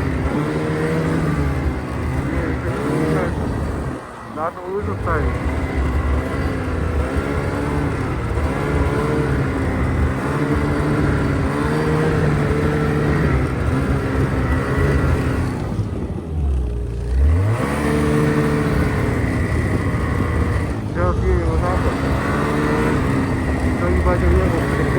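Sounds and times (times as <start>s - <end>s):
snowmobile engine revving: 0.0s - 24.9s.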